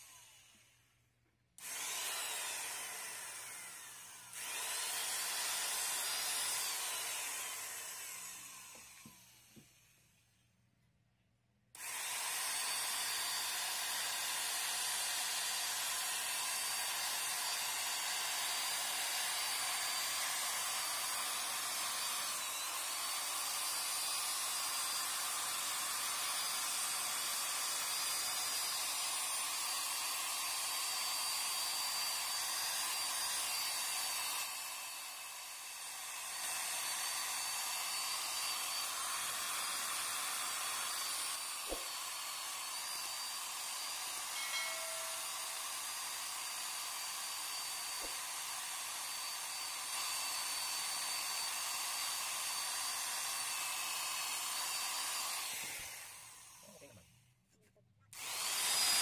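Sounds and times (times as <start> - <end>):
drill buffing pad hissing: 1.6 - 10.0, 11.8 - 57.0, 58.2 - 59.0.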